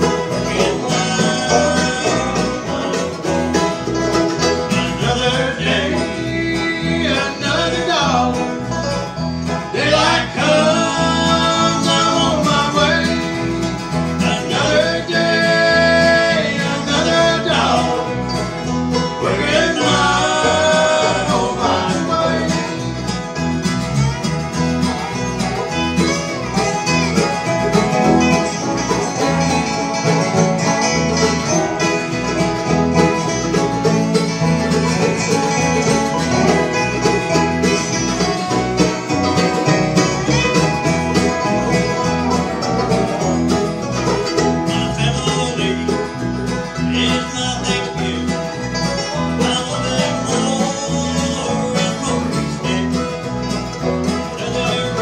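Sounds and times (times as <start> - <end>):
bluegrass band playing: 0.0 - 55.0
sliding lead line: 0.0 - 55.0.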